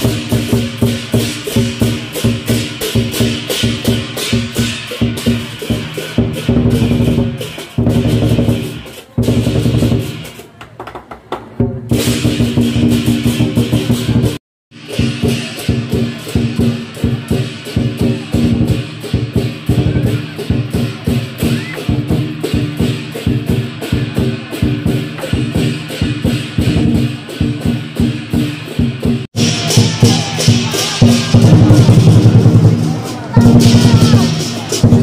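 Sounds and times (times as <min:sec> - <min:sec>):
clashing cymbals: 0:00.0 - 0:10.4, 0:11.9 - 0:35.0
drum beaten rapidly: 0:00.0 - 0:35.0.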